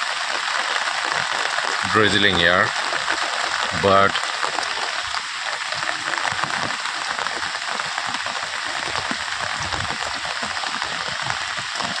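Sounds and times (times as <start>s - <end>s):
steady drizzle: 0.0s - 12.0s.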